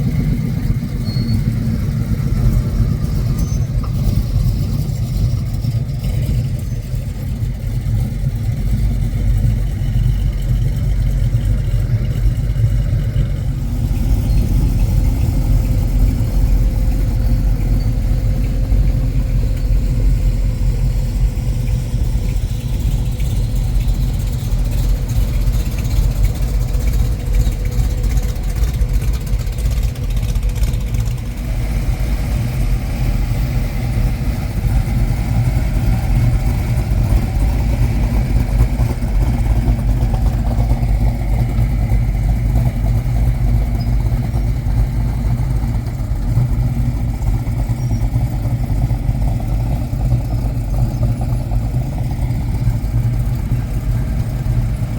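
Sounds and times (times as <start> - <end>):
car engines running: 0.0 - 54.9.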